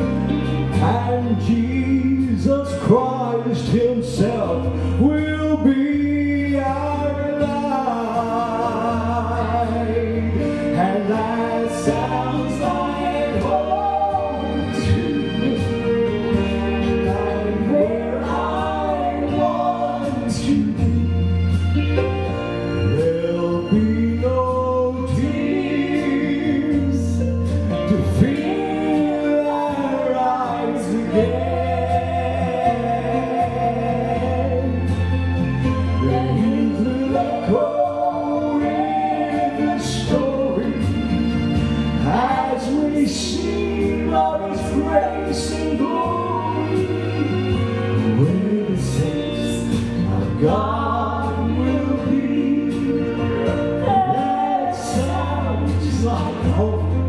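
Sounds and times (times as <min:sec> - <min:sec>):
bass line: 0:00.0 - 0:57.0
gospel singing with accompaniment: 0:00.0 - 0:57.0.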